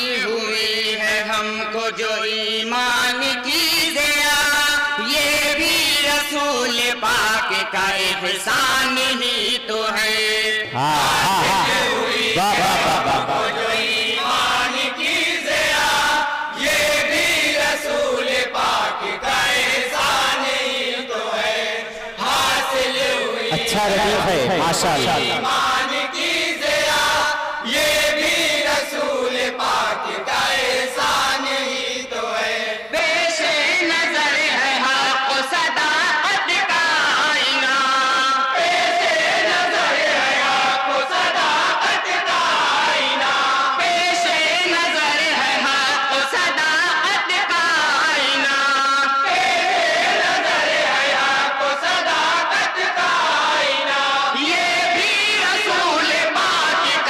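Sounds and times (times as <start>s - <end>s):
men chanting in chorus: 0.0s - 57.0s.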